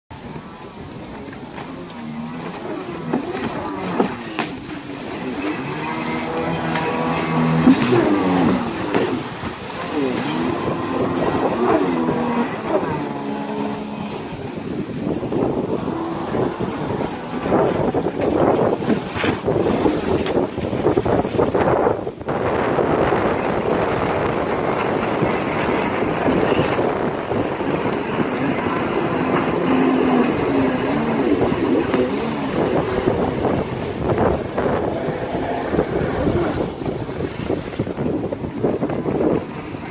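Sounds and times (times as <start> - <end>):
spray and wind rushing: 0.1 - 39.9
jet ski engine revving: 0.2 - 39.9.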